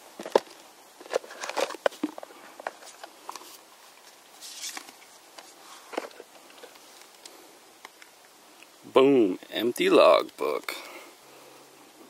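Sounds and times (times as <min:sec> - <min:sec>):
rustle: 0:00.0 - 0:12.0.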